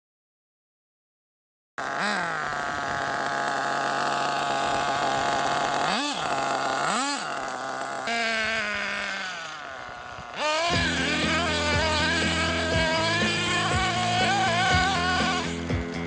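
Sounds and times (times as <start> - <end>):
model engine buzzing: 1.8 - 16.0.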